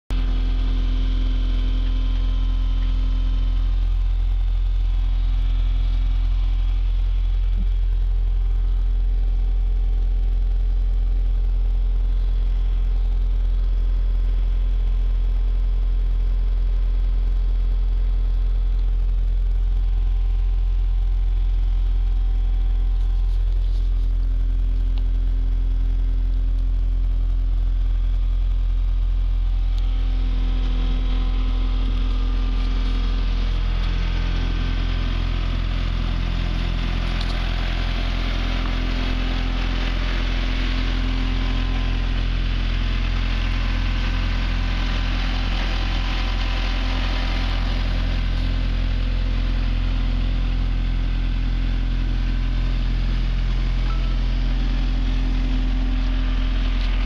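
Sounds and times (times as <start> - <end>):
diesel engine idling: 0.1 - 57.0.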